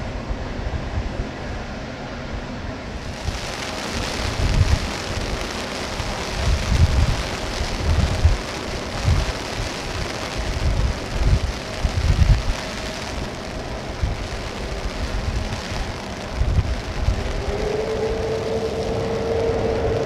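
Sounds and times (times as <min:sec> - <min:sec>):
heavy rain hissing: 0:03.0 - 0:20.0
wind buffeting microphone: 0:03.0 - 0:20.0.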